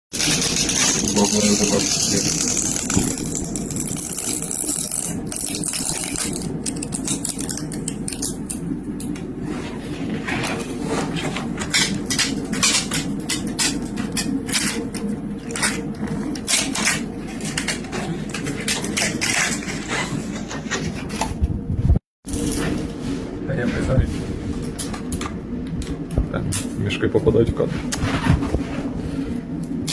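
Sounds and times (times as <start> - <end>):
motor hum: 0.1 - 29.9.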